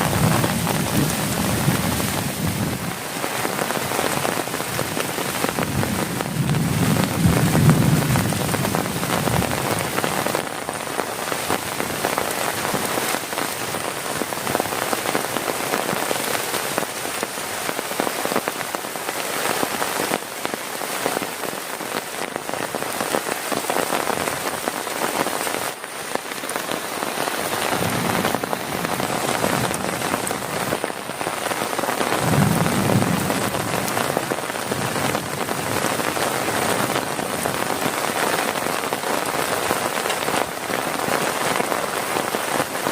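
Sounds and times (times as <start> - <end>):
heavy rain on tent and tarp: 0.0 - 42.9.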